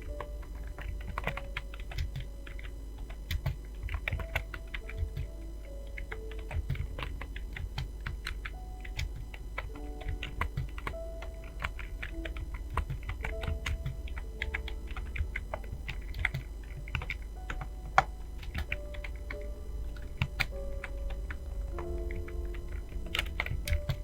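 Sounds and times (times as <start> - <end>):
fast keyboard typing: 0.0 - 24.0.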